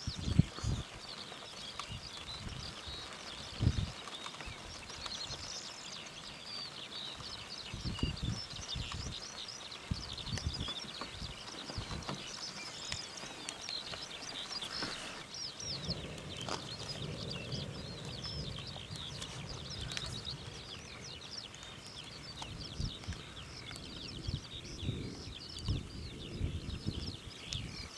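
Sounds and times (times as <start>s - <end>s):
small birds chirping: 0.0s - 27.9s
wind buffeting microphone: 0.0s - 27.9s.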